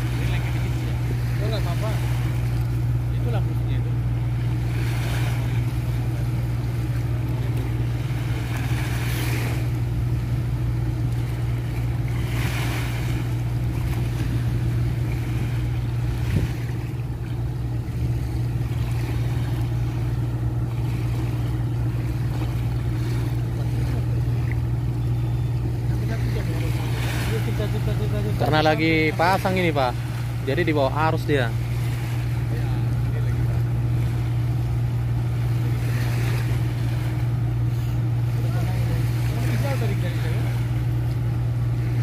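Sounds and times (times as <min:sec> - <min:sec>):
boat engines droning: 0:00.0 - 0:42.0
small waves washing on shore: 0:00.0 - 0:42.0.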